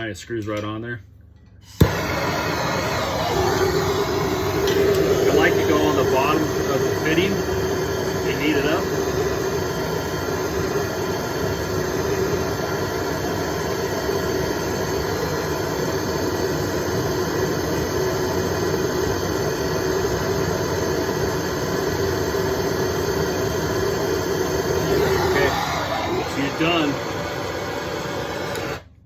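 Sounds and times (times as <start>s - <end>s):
propane torch hissing: 1.6s - 29.0s.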